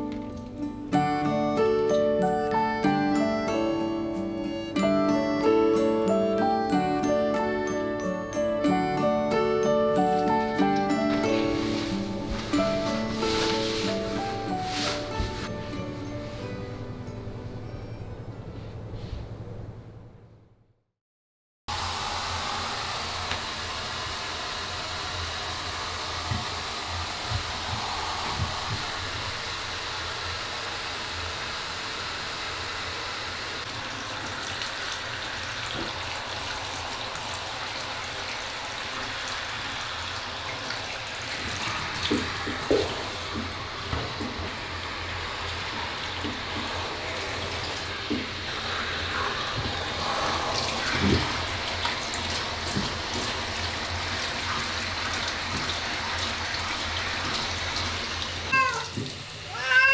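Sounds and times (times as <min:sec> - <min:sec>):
handheld shower running: 0:00.0 - 0:16.6, 0:21.7 - 0:59.9.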